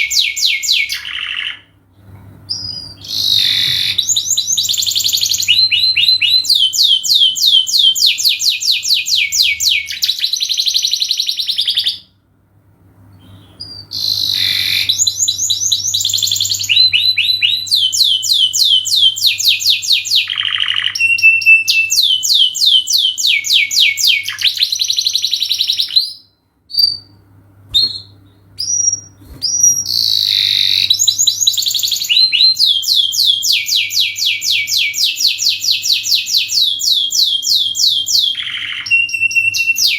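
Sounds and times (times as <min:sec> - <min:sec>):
canary singing trills: 0:00.0 - 0:01.7, 0:02.5 - 0:12.1, 0:13.2 - 0:39.9
faint low hum: 0:00.0 - 0:39.9.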